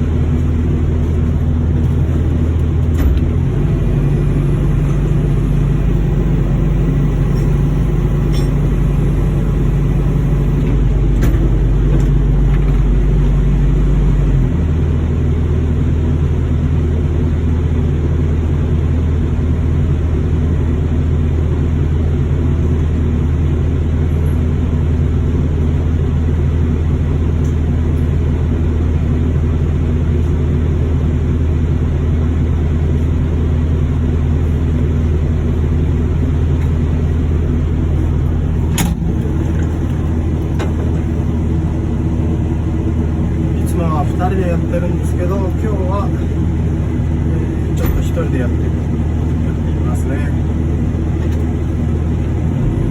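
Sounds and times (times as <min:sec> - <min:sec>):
low drone of running machinery: 0:00.0 - 0:52.9.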